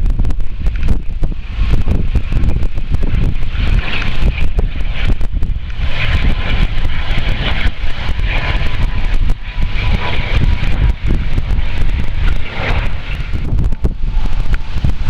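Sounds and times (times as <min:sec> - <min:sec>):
distant engine drone: 0:00.0 - 0:15.0
wind buffeting microphone: 0:00.0 - 0:15.0.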